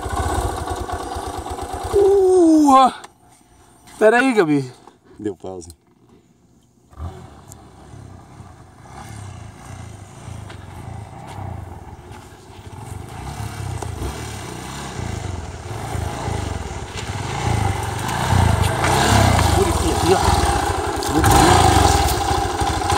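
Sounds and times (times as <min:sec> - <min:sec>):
motorcycle engine approaching: 0:00.0 - 0:02.9, 0:06.9 - 0:22.9.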